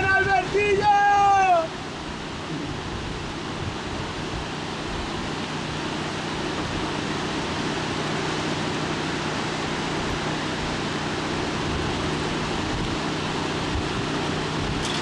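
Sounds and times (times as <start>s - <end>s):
rushing outdoor air: 0.0s - 15.0s.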